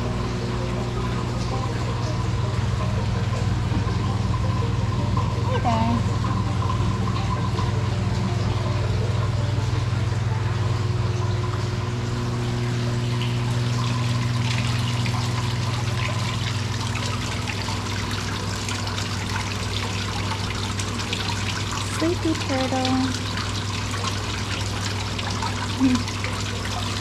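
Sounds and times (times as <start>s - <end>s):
low electrical hum: 0.0s - 27.0s
water trickling into tank: 0.0s - 27.0s.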